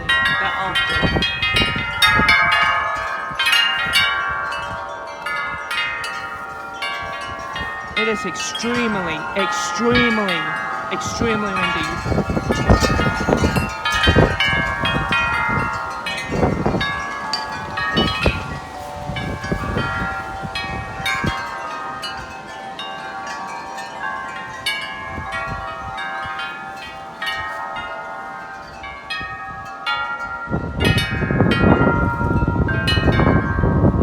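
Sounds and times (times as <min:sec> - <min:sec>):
wind gusts on microphone: 0:00.0 - 0:22.6, 0:24.0 - 0:34.0
wind chimes ringing: 0:00.0 - 0:34.0.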